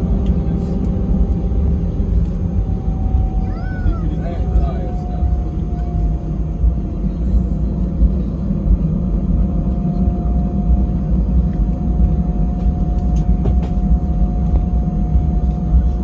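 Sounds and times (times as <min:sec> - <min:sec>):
engine whine: 0:00.0 - 0:16.0
jet engines rumbling: 0:00.0 - 0:16.0.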